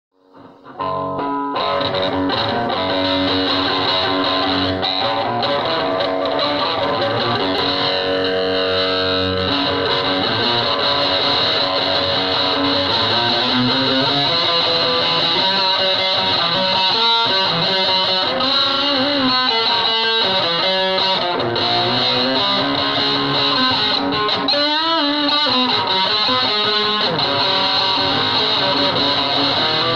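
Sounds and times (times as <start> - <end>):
distorted electric guitar: 0.2 - 29.9.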